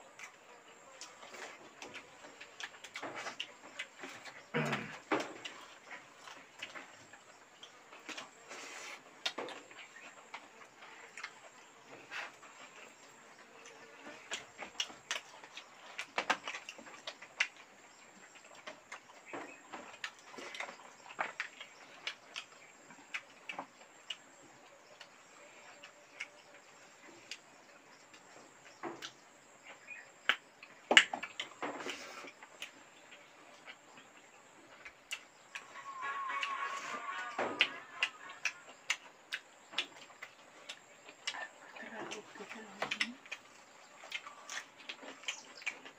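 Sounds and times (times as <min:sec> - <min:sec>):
people chewing and eating: 0:00.0 - 0:45.9.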